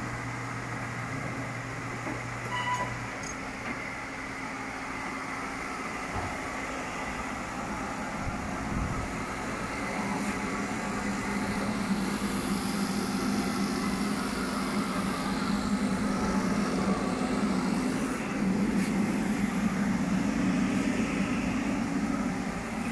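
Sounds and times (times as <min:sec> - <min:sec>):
machine hum and whir: 0:00.0 - 0:22.9.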